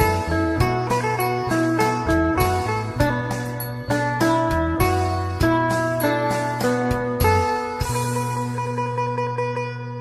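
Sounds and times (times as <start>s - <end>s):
harp plucked notes: 0.0s - 10.0s.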